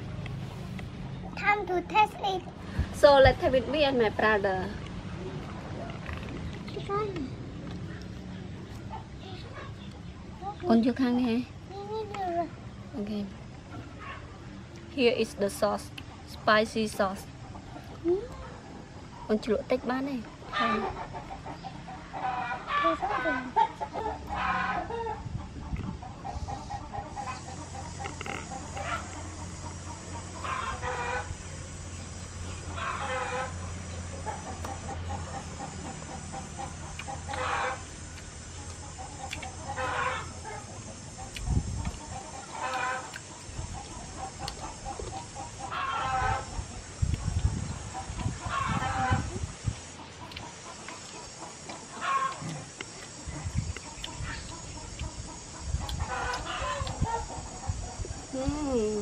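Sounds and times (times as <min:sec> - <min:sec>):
chickens clucking: 0:04.9 - 0:12.7, 0:15.6 - 0:19.4, 0:20.1 - 0:58.3.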